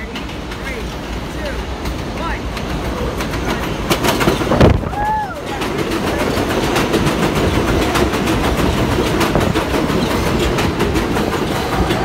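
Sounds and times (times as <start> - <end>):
subway wheels rumbling: 0.0 - 12.0
wheels clicking over rail joints: 0.0 - 12.0.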